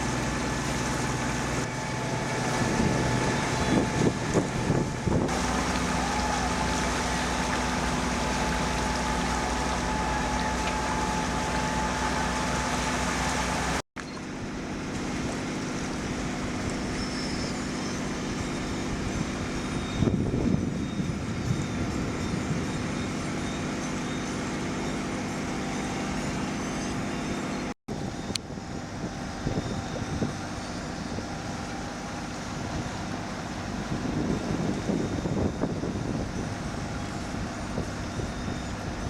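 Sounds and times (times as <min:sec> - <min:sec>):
boat engine running: 0:00.0 - 0:39.0
wind and water rushing: 0:00.0 - 0:39.0.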